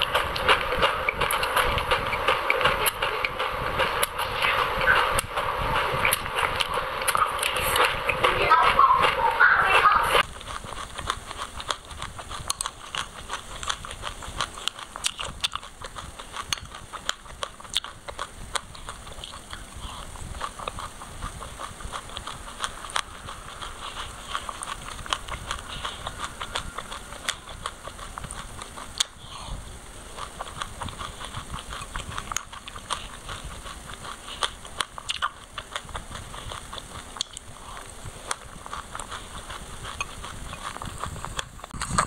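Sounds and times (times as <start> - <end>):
chewing seeds crackling crunches: 0.0 - 9.3, 10.2 - 42.0.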